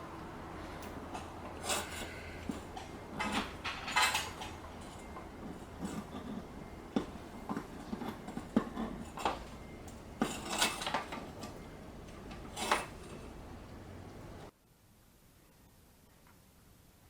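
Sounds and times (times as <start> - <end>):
metallic clinks and knocks: 0.1 - 14.5.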